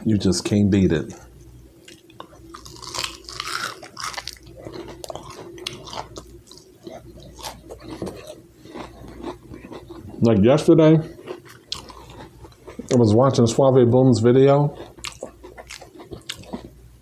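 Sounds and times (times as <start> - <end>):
person chewing and crunching food: 1.2 - 13.5, 14.2 - 17.0.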